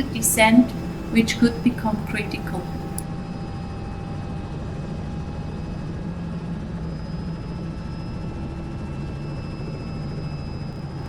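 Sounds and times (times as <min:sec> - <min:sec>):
helicopter rotor drone: 0:00.0 - 0:11.0
turbine whine: 0:00.0 - 0:11.0.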